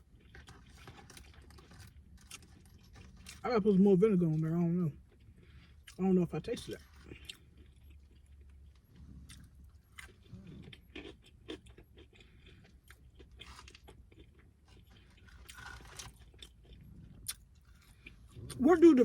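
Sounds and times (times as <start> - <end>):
person chewing crunchy food: 0.0 - 3.4, 6.6 - 19.0.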